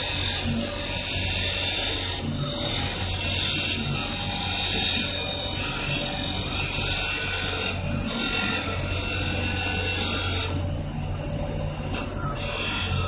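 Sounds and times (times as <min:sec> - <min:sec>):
low motor hum: 0:00.0 - 0:13.0
router spindle whining: 0:00.0 - 0:13.0.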